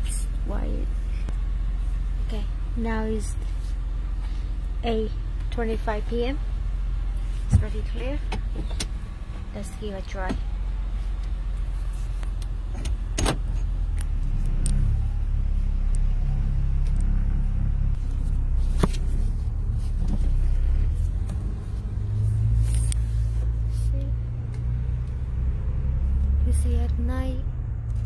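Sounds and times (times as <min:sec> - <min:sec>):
car engine rumble and road noise: 0:00.0 - 0:28.0.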